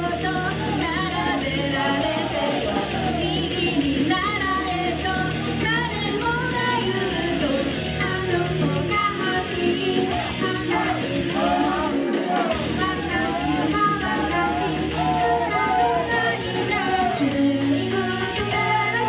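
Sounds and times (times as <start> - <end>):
female voices singing pop: 0.0 - 19.0
pop backing track with bass: 0.0 - 19.0.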